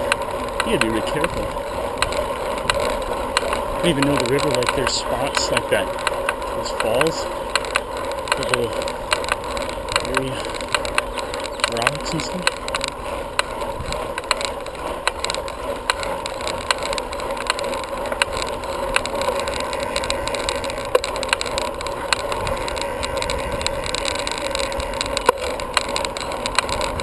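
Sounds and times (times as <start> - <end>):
bicycle clicks and rattles: 0.0 - 27.0
bicycle tyres and drivetrain rolling: 0.0 - 27.0.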